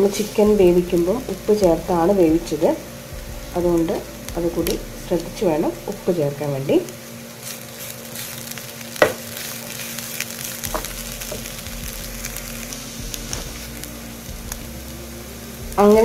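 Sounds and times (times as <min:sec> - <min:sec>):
food sizzling: 0:00.0 - 0:16.0.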